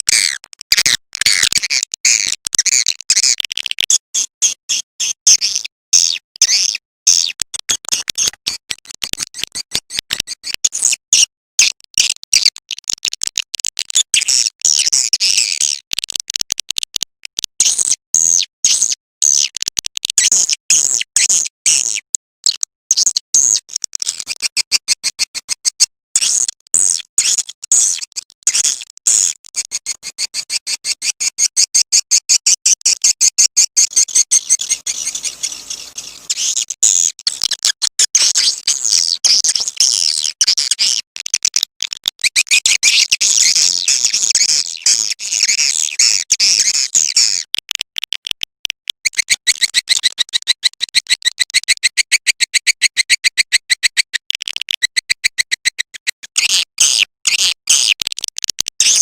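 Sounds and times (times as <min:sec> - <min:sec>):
high-pitched bird chirps and clicks: 0:00.0 - 0:59.0.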